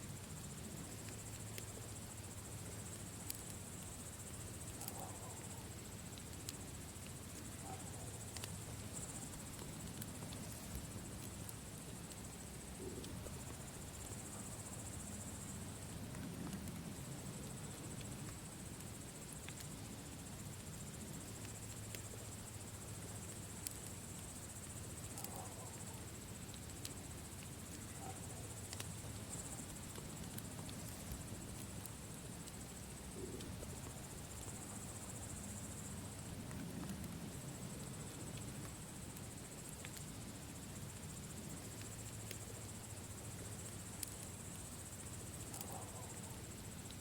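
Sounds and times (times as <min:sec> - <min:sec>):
insects chirring: 0:00.0 - 0:47.0
campfire crackling and popping: 0:00.1 - 0:47.0.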